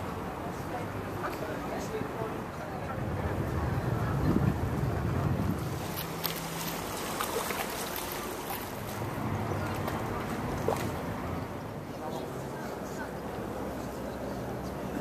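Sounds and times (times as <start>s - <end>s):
distant voices: 0.0s - 15.0s.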